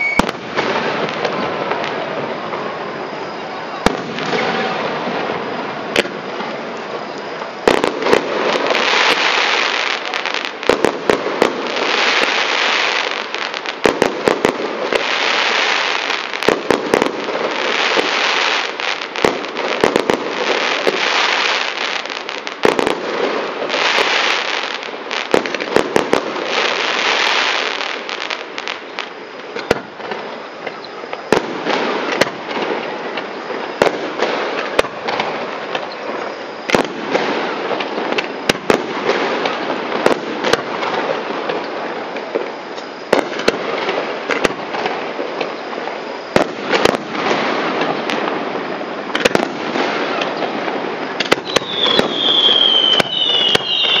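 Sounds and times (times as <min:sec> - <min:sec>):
fireworks bangs and crackles: 0:00.0 - 0:54.0
fireworks hissing rush: 0:00.0 - 0:54.0.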